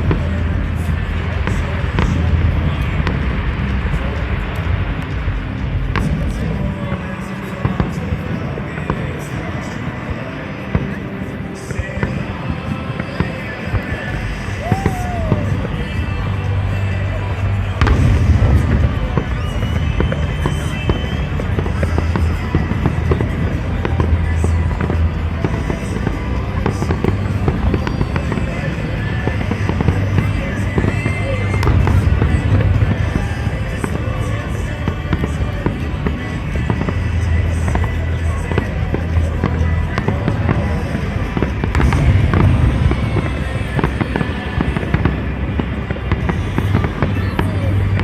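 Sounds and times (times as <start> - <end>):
continuous low rumble: 0.0 - 48.0
fireworks crackling and banging: 0.0 - 48.0.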